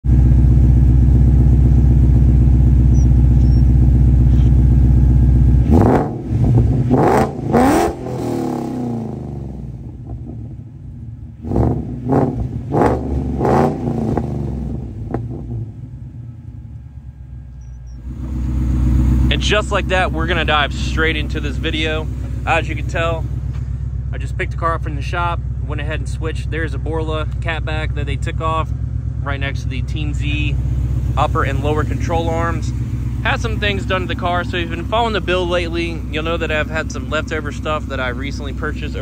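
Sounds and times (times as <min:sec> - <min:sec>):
car engine idling: 0:00.0 - 0:39.0
engine revving: 0:00.1 - 0:16.8, 0:17.6 - 0:39.0.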